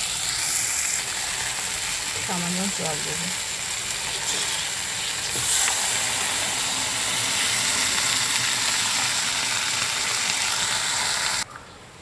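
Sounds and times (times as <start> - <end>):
vegetables sizzling in hot oil: 0.0 - 11.4.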